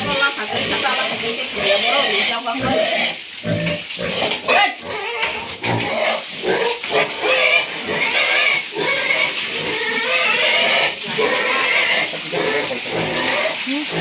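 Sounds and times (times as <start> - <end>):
pigs grunting: 0.0 - 14.0.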